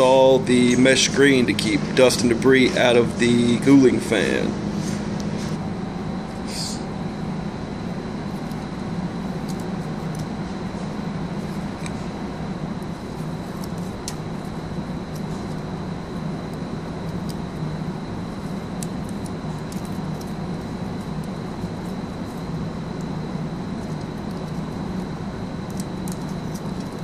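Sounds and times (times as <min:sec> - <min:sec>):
low hum and noise: 0:00.0 - 0:27.0.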